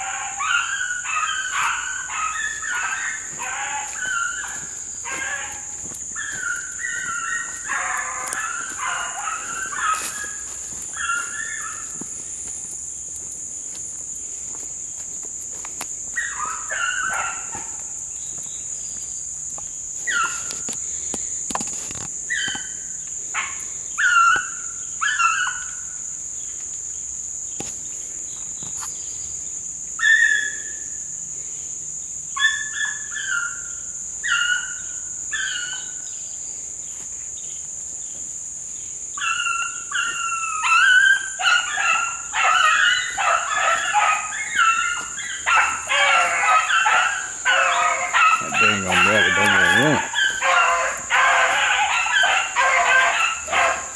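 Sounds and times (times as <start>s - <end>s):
hounds baying and barking: 0.0s - 18.5s, 19.6s - 26.0s, 32.4s - 36.1s, 39.2s - 53.9s
crickets chirping: 0.0s - 53.9s.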